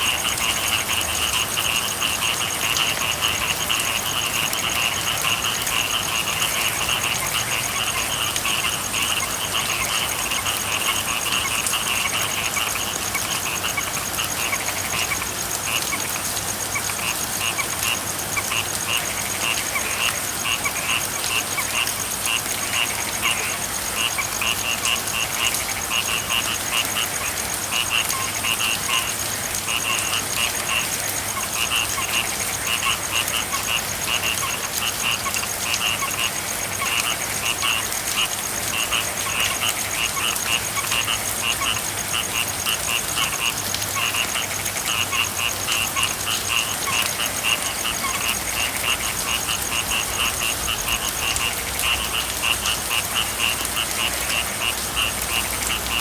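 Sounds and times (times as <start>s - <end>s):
frogs trilling: 0.0s - 56.0s
low frog croaks: 0.0s - 56.0s
steady rain: 0.0s - 56.0s.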